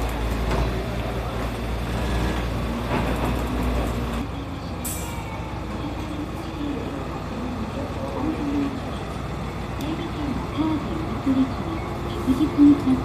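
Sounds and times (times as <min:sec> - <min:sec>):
diesel bus engine rumble: 0:00.0 - 0:13.0.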